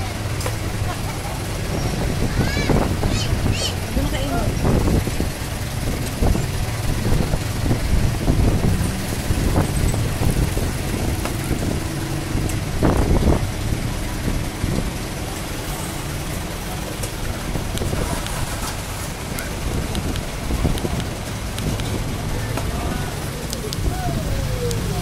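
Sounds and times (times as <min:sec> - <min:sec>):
indistinct voices: 0:00.0 - 0:25.0
motor traffic rumble: 0:00.0 - 0:25.0.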